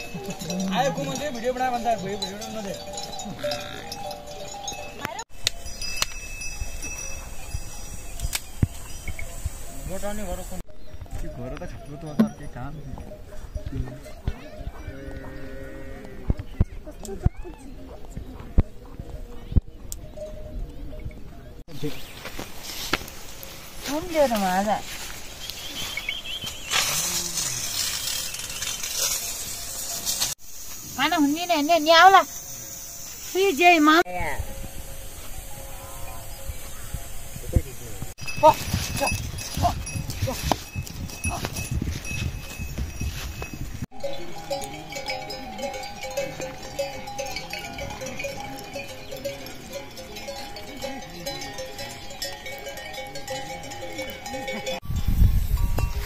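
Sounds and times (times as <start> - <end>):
animal bells clanking: 0.0 - 56.0.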